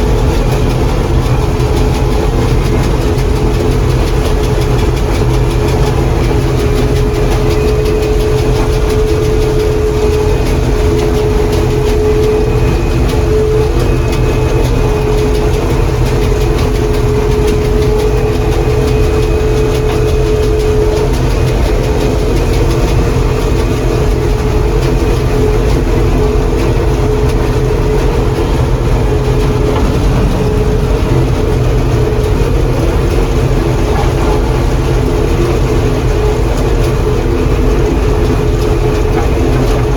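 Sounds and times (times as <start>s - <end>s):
combine engine drone: 0.0s - 39.9s
machinery whine: 0.0s - 39.9s.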